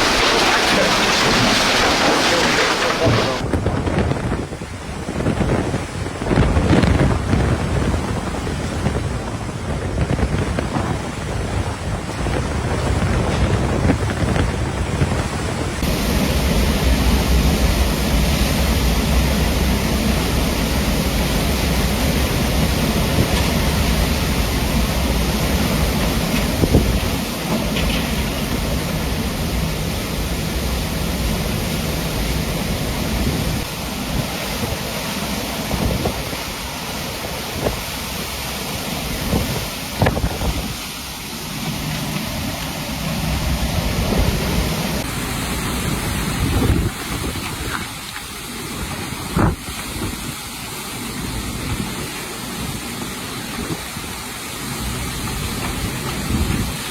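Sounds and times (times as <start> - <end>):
driving rain: 0.0 - 56.9
hurricane wind: 0.0 - 56.9
wind buffeting on microphone: 0.0 - 56.9.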